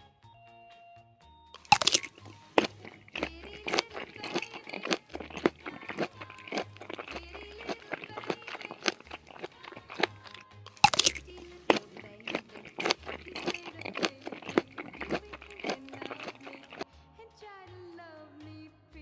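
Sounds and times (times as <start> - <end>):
crunchy chewing: 1.6 - 16.9
wet mouth sounds: 1.6 - 16.9.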